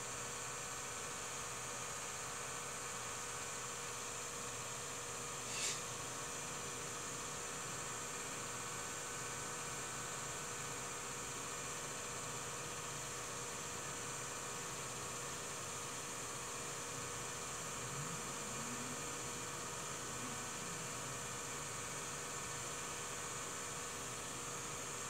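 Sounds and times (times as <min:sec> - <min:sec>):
electrical hum with hiss: 0:00.0 - 0:25.0.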